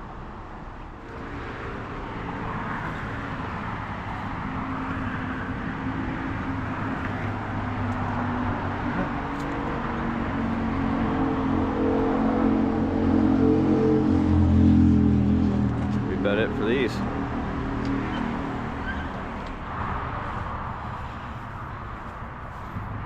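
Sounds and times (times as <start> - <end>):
vehicle engine and tyre noise: 0.0 - 23.0.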